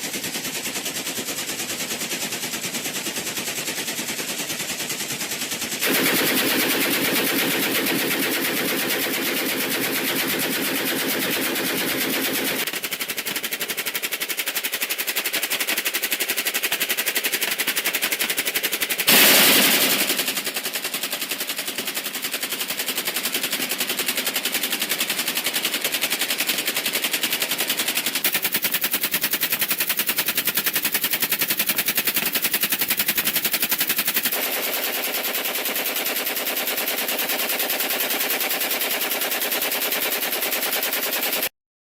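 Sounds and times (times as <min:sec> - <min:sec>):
machine gun automatic fire: 0:00.0 - 0:41.5.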